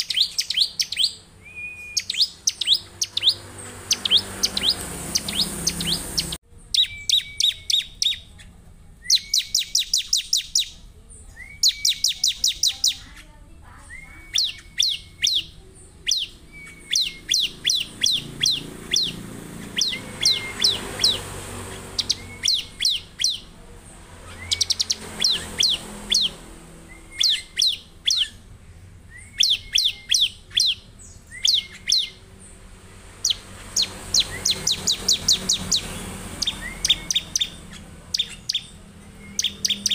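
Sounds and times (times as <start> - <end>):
bird chirping in rapid bursts: 0.0 - 39.9.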